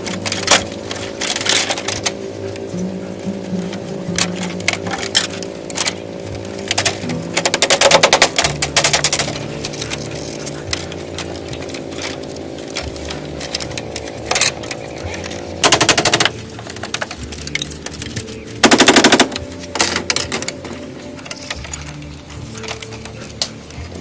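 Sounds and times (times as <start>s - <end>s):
rapid mechanical rattling: 0.0s - 24.0s
steady hum: 0.0s - 24.0s.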